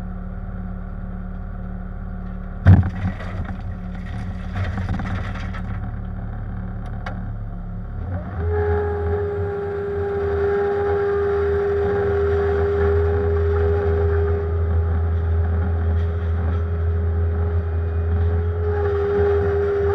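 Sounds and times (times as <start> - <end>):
diesel engine under load: 0.0 - 19.9
hydraulic pump whine: 2.5 - 19.9.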